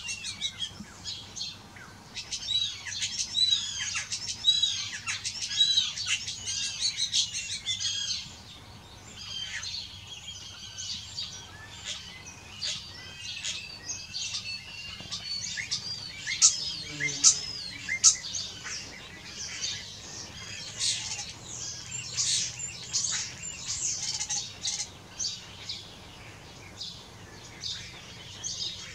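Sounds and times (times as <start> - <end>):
starlings singing: 0.0 - 28.9.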